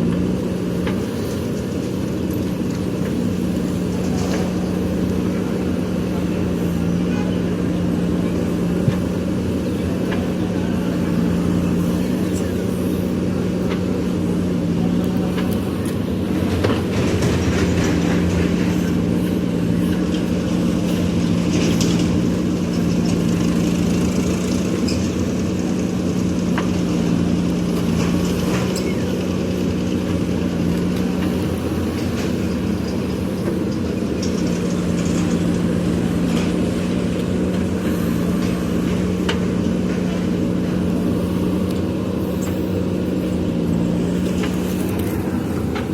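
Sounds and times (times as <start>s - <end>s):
backhoe diesel engine running: 0.0s - 45.9s.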